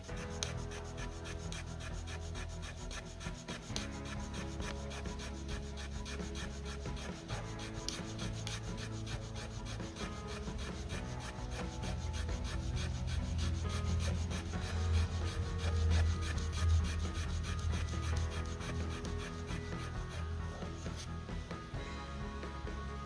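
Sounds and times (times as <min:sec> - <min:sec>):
wood rasping on wood: 0:00.0 - 0:21.1.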